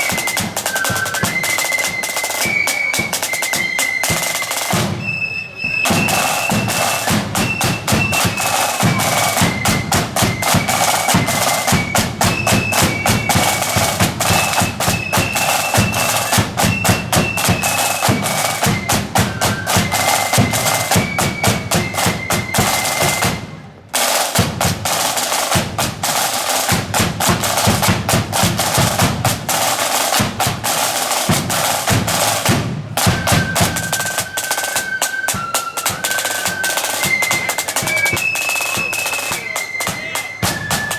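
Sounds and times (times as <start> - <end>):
snare and bass drums: 0.0 - 5.2, 5.8 - 40.9
shrill flute melody: 0.0 - 26.8, 33.0 - 40.9.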